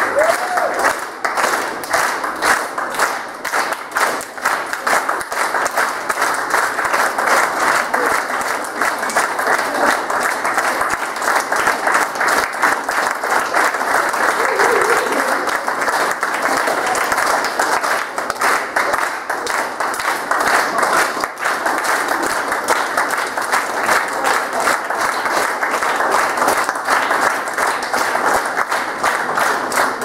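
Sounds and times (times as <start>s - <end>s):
children applauding: 0.0s - 30.0s.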